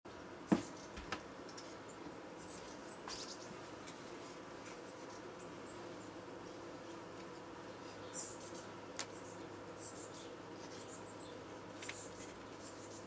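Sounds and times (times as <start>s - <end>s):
honeybees humming: 0.1s - 13.0s.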